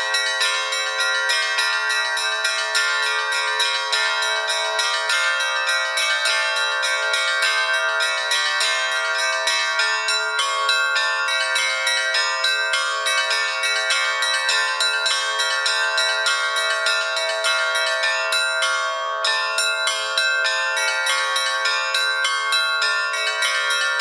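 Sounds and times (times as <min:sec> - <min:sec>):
bells ringing: 0:00.0 - 0:24.0.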